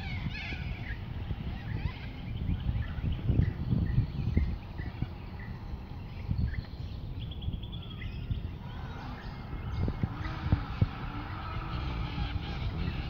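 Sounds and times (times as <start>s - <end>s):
birds chirping: 0.0s - 13.0s
low rumbling background noise: 0.0s - 13.0s.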